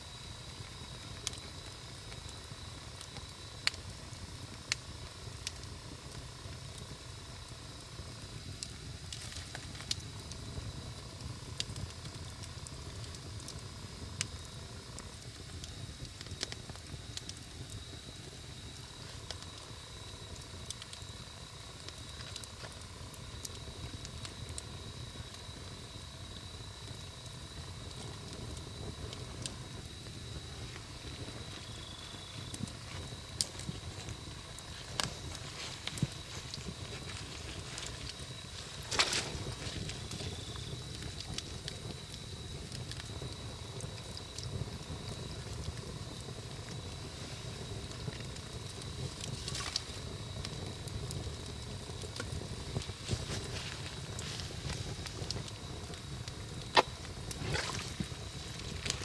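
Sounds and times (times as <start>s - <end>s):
burning wood crackling and popping: 0.0s - 59.0s
rumble of campfire flames: 0.0s - 59.0s.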